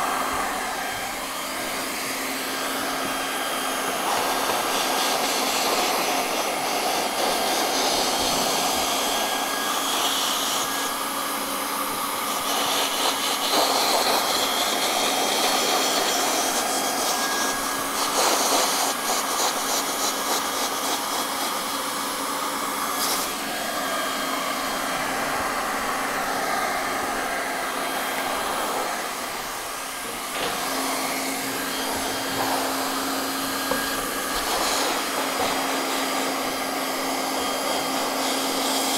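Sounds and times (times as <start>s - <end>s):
hot-air welding gun blowing: 0.0s - 38.9s.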